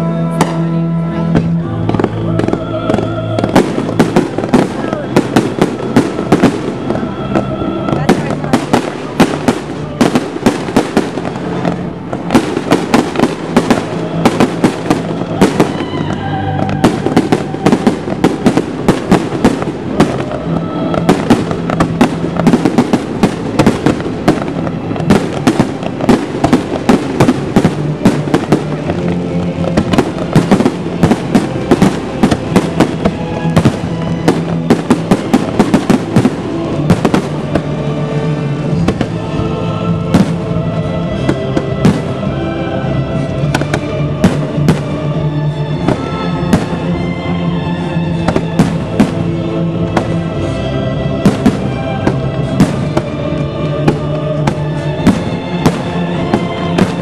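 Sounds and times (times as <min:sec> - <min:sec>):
music: 0:00.0 - 0:57.0
fireworks bangs: 0:00.3 - 0:39.4, 0:40.0 - 0:42.3, 0:43.3 - 0:47.1, 0:48.0 - 0:50.6, 0:51.2 - 0:57.0.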